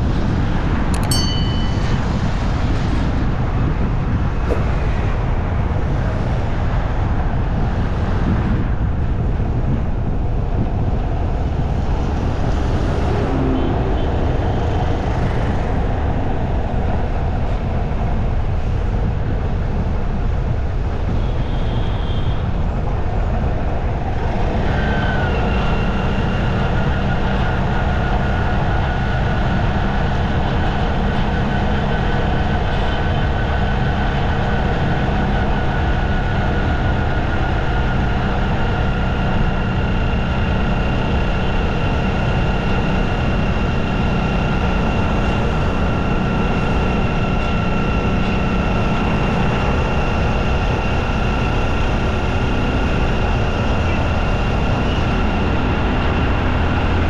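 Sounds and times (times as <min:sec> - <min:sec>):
traffic rumble: 0:00.0 - 0:57.0.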